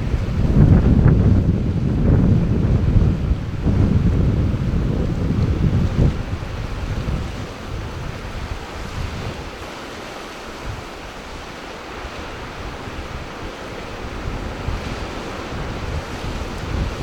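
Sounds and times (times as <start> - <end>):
ocean waves breaking: 0.0 - 17.0
wind buffeting microphone: 0.0 - 17.0.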